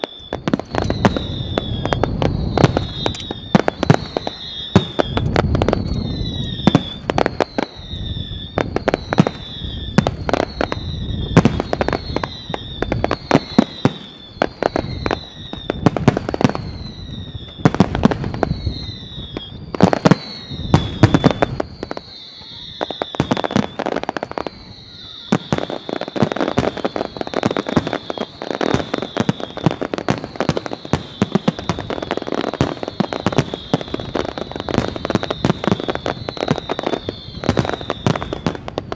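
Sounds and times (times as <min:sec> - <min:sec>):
high falling whistle: 0:00.0 - 0:38.6
fireworks bangs: 0:00.0 - 0:38.9.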